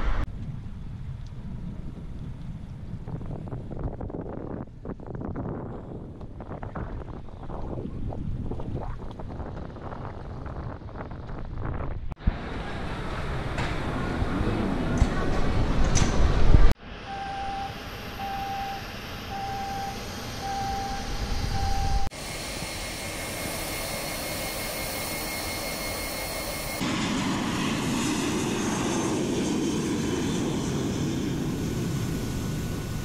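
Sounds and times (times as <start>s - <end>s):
jet taking off rumble: 0.0s - 33.0s
jet engine whine: 5.8s - 33.0s.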